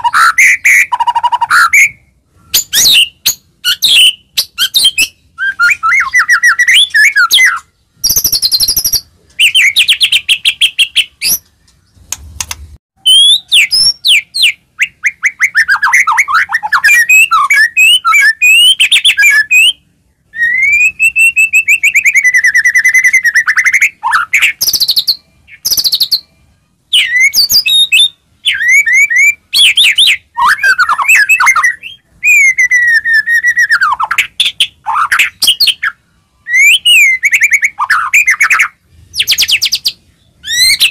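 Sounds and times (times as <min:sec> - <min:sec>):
bird singing trills and whistles: 0:00.0 - 0:12.2, 0:13.0 - 0:40.9.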